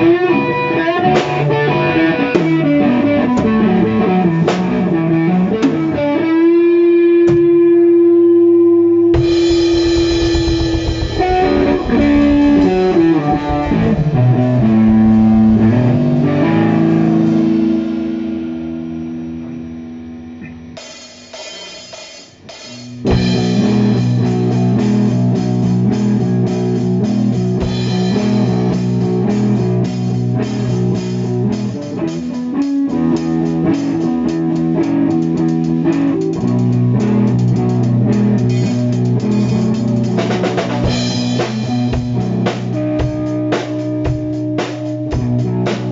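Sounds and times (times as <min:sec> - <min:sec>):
rock music with guitar and drums: 0:00.0 - 0:08.3, 0:09.1 - 0:19.4, 0:20.4 - 0:45.9.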